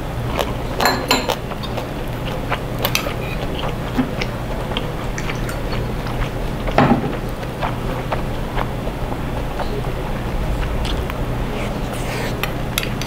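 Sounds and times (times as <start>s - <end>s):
low hum: 1.4s - 13.0s.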